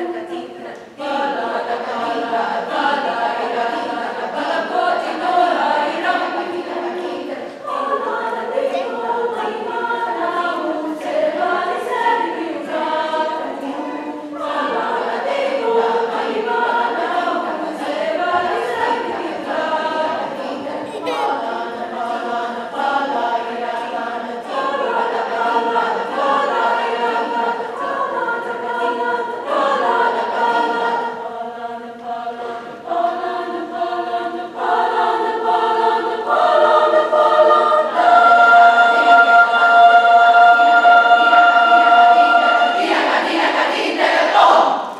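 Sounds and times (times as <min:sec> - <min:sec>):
women's chorus singing chords: 0:00.0 - 0:44.9.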